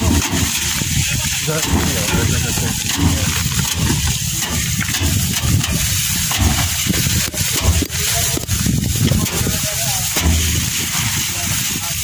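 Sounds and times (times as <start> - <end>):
rice sheaves thumping on drum: 0.0 - 12.0
wind on microphone: 0.0 - 12.0.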